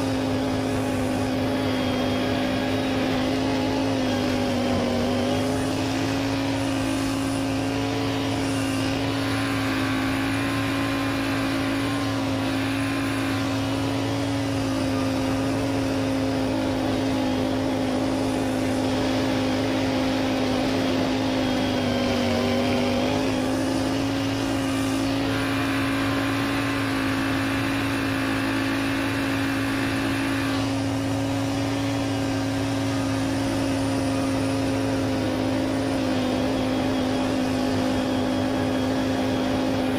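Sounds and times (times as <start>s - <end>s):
lawn tractor engine running: 0.0s - 39.9s
snowblower churning snow: 0.0s - 39.9s.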